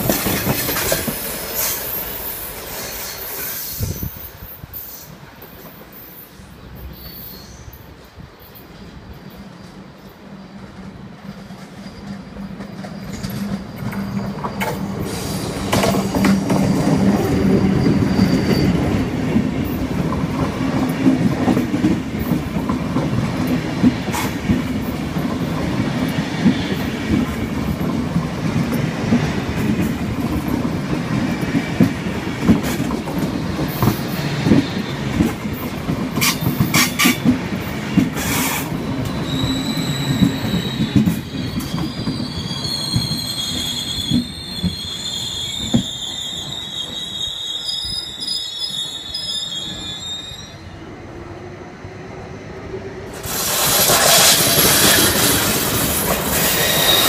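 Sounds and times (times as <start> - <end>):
wheel squeal of braking train: 0.0 - 20.0, 23.4 - 27.9, 28.7 - 50.9, 53.1 - 57.0
rail-joint clicks: 0.0 - 50.0
train rumbling past: 0.0 - 57.0.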